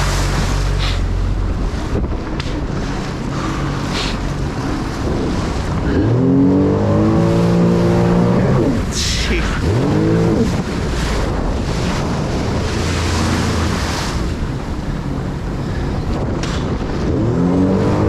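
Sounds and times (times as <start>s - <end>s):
water noise: 0.0s - 16.5s
jet ski engine accelerating: 0.0s - 18.0s
wind: 0.0s - 18.0s.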